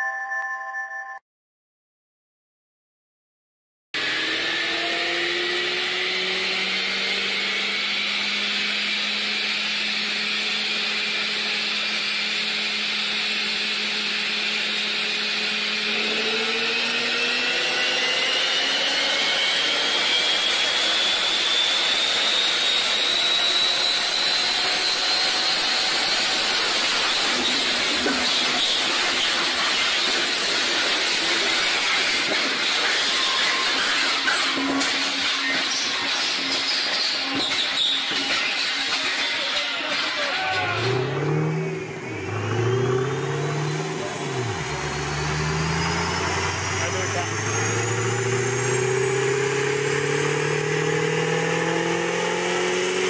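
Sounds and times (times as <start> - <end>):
car engine running flat-out: 4.0 - 35.6, 38.8 - 53.0
wheels spinning dyno rollers: 4.0 - 53.0.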